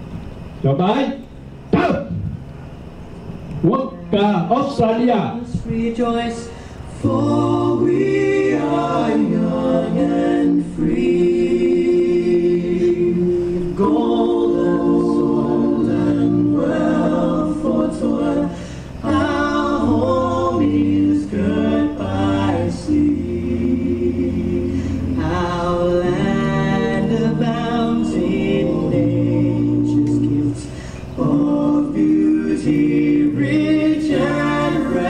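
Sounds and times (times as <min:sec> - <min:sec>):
choir singing an anthem: 0:05.4 - 0:35.0.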